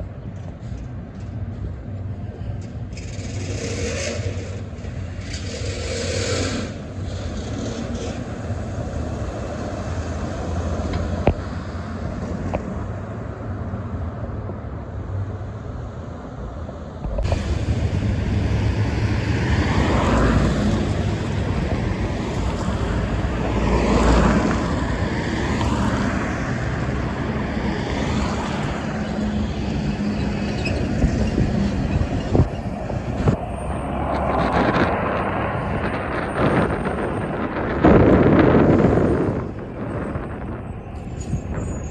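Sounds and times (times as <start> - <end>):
trucks and cars passing: 0.0 - 41.9.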